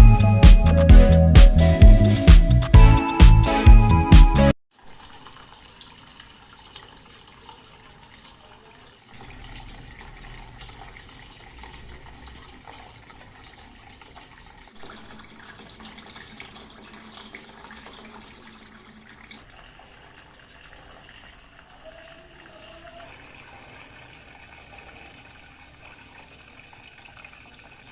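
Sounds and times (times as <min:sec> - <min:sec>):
fountain water trickling: 0:04.8 - 0:27.9.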